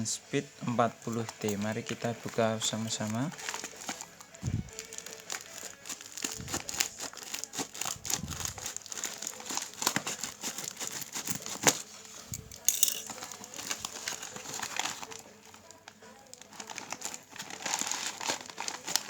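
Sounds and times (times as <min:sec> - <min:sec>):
packaging crinkling: 0:00.8 - 0:19.0
packaging tearing: 0:00.9 - 0:19.0.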